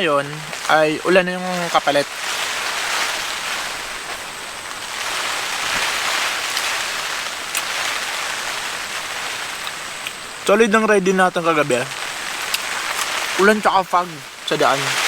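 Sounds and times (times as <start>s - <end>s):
heavy rain pouring: 0.0s - 15.0s
storm wind: 0.0s - 15.0s.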